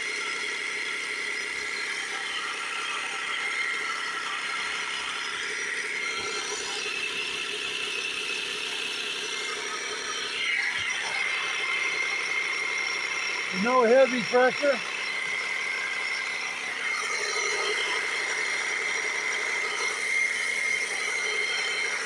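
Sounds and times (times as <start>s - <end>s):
air compressor running: 0.0s - 22.0s.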